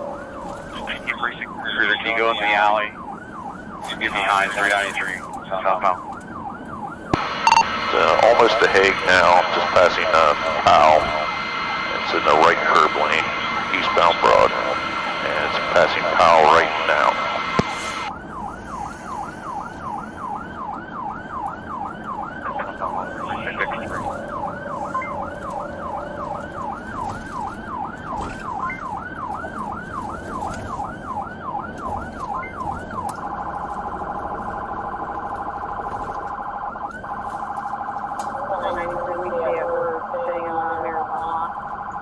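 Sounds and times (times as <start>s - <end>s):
police siren yelp and warble: 0.0s - 42.0s.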